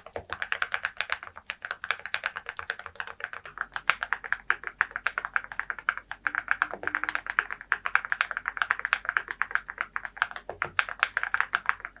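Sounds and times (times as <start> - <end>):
fast typing on ceramic keycaps: 0.0 - 12.0.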